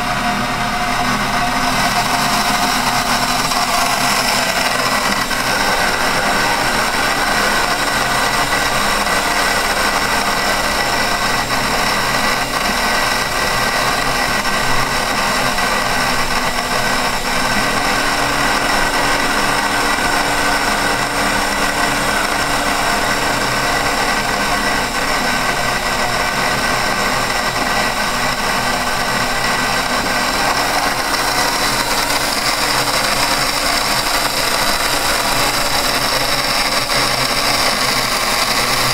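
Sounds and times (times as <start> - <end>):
lathe motor whine: 0.0 - 38.9.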